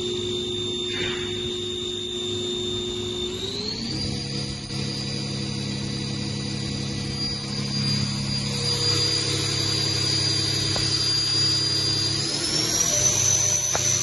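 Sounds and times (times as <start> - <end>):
low machine hum: 0.0 - 14.0
machine spindle whine: 0.0 - 14.0.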